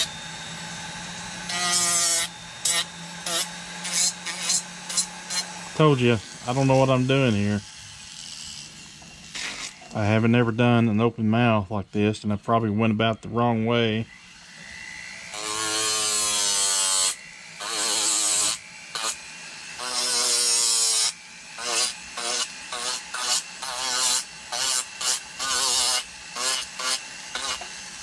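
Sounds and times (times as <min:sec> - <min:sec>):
rotary tool grinding wood: 0:00.0 - 0:28.0.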